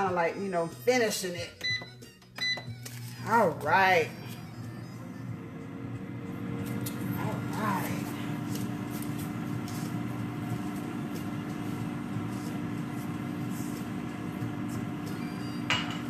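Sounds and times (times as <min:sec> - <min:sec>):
air fryer fan humming: 0:02.4 - 0:16.0.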